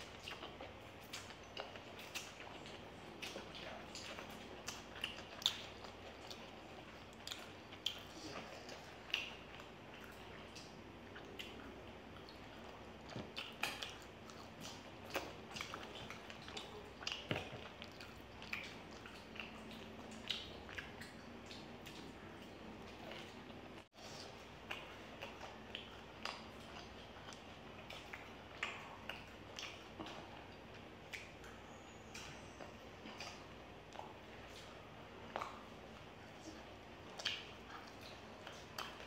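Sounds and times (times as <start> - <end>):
wet mouth clicks and smacks: 0.0 - 23.4, 24.2 - 39.0
people chewing food: 0.0 - 39.0.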